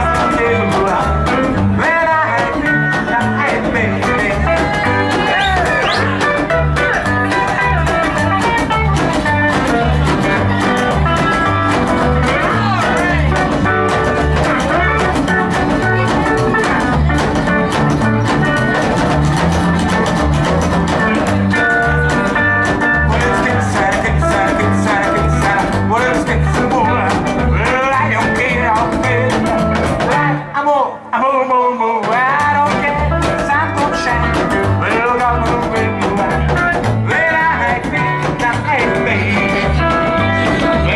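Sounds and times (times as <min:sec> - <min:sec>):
double bass line: 0:00.0 - 0:30.5, 0:32.1 - 0:40.9
electric guitar: 0:00.0 - 0:31.1, 0:31.7 - 0:40.9
acoustic guitar: 0:00.0 - 0:40.9.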